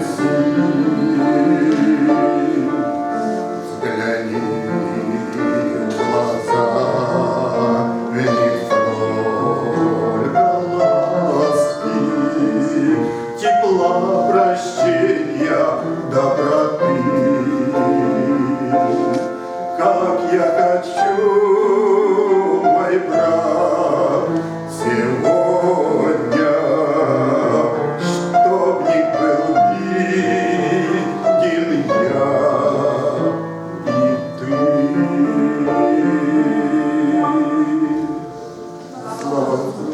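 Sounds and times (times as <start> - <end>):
instrumental accompaniment: 0.0 - 39.9
man singing a hymn: 0.0 - 39.9.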